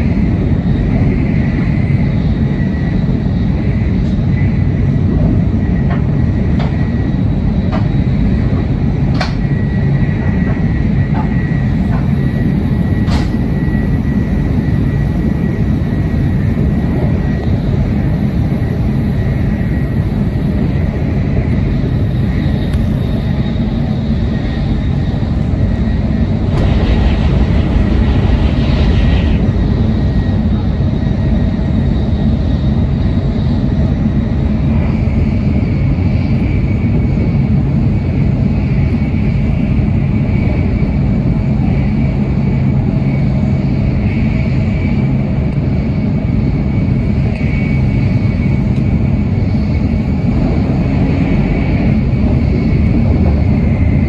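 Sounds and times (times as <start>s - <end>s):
train cabin rumble: 0.0s - 39.9s, 47.0s - 54.0s.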